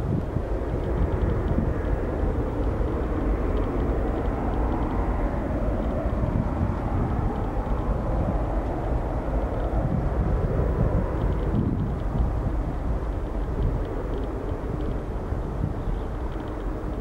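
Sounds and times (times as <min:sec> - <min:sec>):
distant jet rumble: 0:00.0 - 0:17.0.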